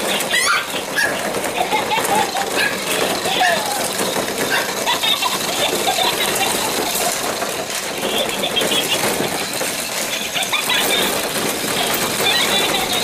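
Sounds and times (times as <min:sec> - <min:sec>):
puppies squealing: 0:00.0 - 0:07.3, 0:08.0 - 0:13.0
plastic balls clattering: 0:00.0 - 0:13.0.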